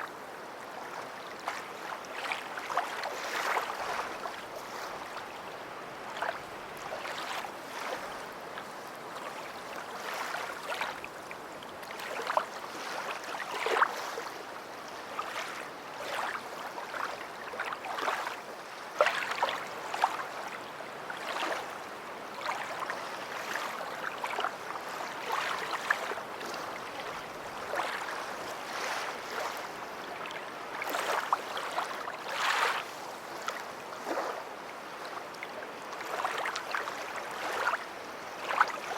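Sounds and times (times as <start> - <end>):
small waves lapping and splashing: 0.0 - 38.9.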